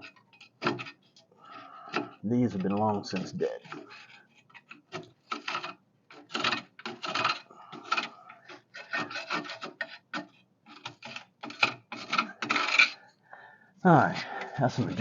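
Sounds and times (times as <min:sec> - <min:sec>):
tool scraping dried mud: 0:00.0 - 0:13.1, 0:14.5 - 0:15.0.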